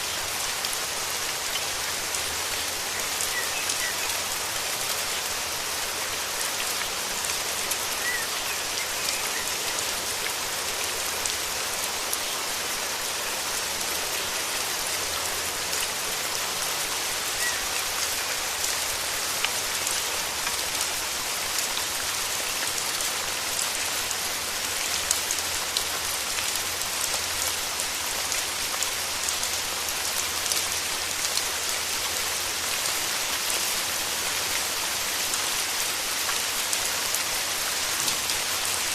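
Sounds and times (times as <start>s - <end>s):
steady rain in forest: 0.0s - 38.9s.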